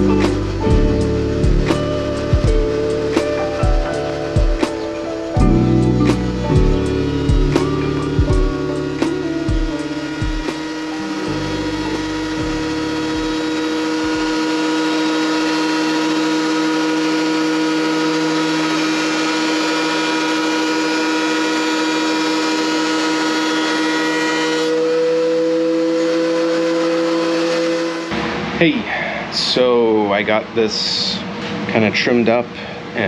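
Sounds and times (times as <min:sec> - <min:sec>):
power tool motor whining: 0:00.0 - 0:28.2.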